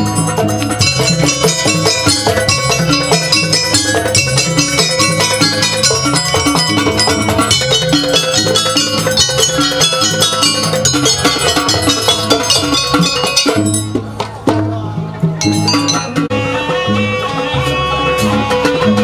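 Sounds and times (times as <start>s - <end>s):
gamelan ensemble playing: 0.0s - 19.0s.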